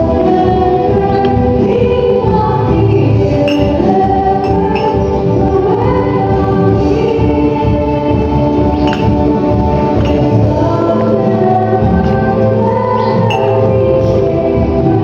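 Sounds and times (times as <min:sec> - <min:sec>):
choir singing gospel: 0:00.0 - 0:15.0.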